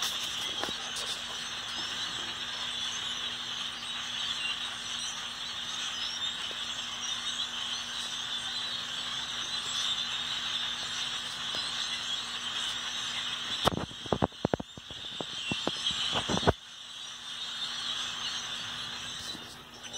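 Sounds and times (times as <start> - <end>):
flock of birds chirping: 0.0 - 19.9.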